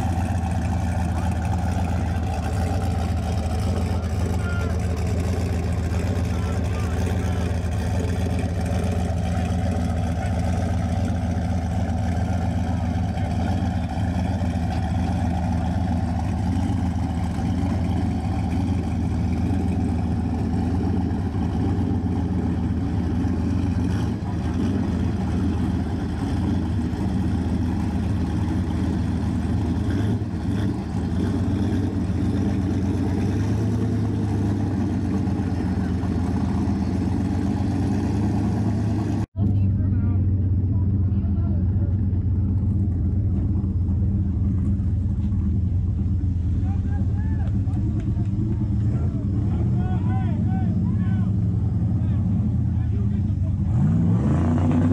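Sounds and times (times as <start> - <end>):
race car engines idling: 0.0 - 54.9.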